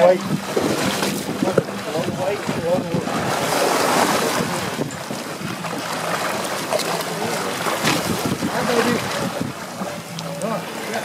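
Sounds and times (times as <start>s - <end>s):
wind on microphone: 0.0s - 10.7s
water splashing against hull: 0.0s - 11.0s.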